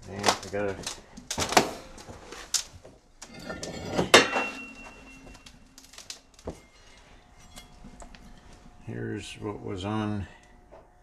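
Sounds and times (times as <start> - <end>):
metal parts clanking: 0.0 - 10.7
rustling: 0.0 - 11.0
metallic ring: 1.0 - 10.8.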